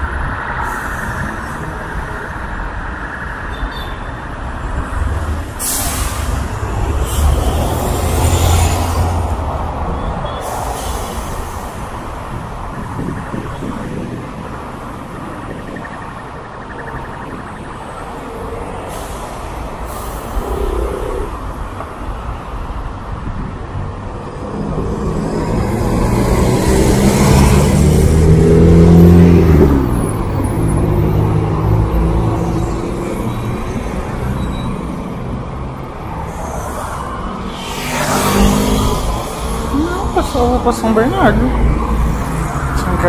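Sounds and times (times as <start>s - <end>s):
street traffic: 0.0s - 43.0s
bus passing by: 4.6s - 15.7s, 17.9s - 43.0s.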